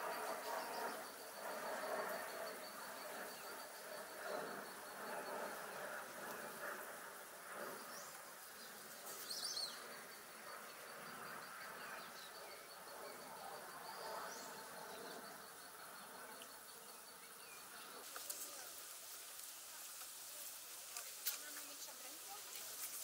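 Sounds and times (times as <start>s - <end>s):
faint park background noise: 0.0s - 23.0s
high-pitched insect trill: 0.0s - 23.0s.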